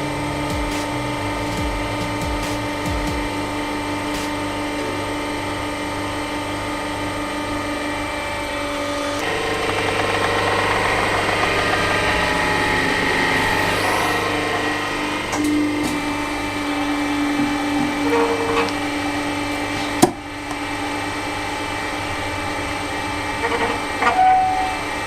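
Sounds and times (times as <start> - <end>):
hydraulic press humming: 0.0 - 25.0.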